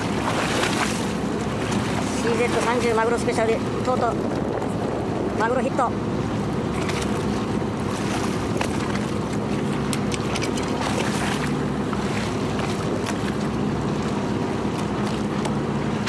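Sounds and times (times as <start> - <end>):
wind on microphone: 0.0 - 13.4
boat engine running: 0.0 - 16.0
water washing at hull: 0.0 - 16.0.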